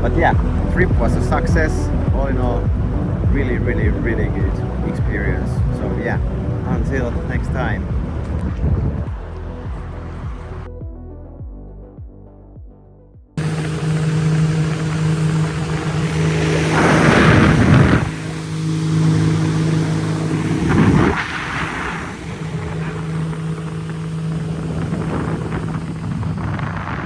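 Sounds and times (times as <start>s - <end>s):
motorboat engine running: 0.0s - 10.7s, 13.4s - 27.0s
wind noise on microphone: 0.0s - 10.7s, 13.4s - 27.0s.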